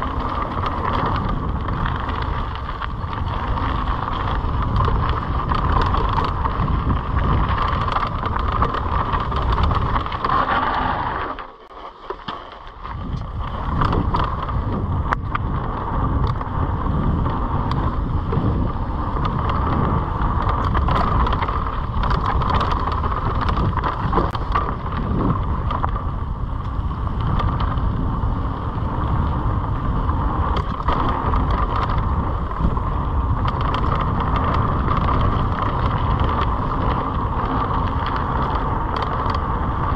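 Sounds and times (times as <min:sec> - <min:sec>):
wind buffeting microphone: 0:00.0 - 0:11.1, 0:12.8 - 0:39.9
bike clicks and rattles: 0:00.0 - 0:39.9
tyres rumbling on dirt: 0:00.0 - 0:39.9.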